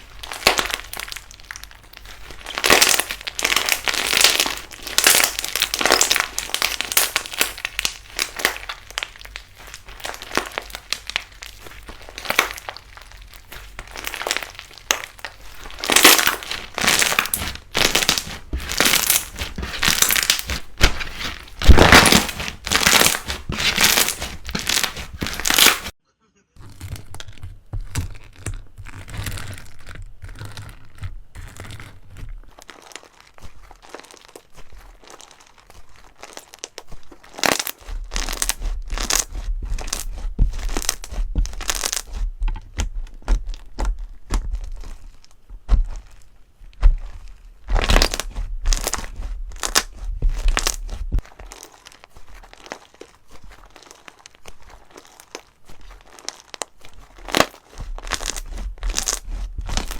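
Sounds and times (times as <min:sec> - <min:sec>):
slime crackling and popping: 0:00.0 - 0:26.0, 0:26.6 - 0:59.9.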